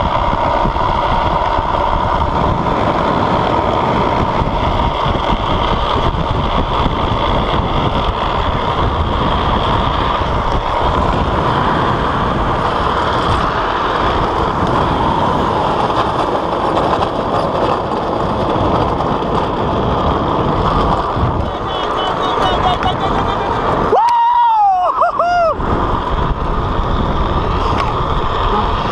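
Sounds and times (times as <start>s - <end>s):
hard wheels sliding on asphalt: 0.0s - 28.9s
wind buffeting camera: 0.0s - 28.9s.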